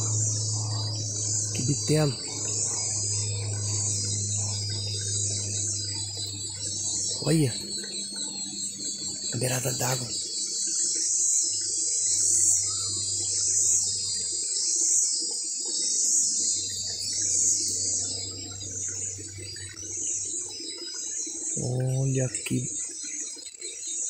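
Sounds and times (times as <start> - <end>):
cicadas singing: 0.0 - 24.0.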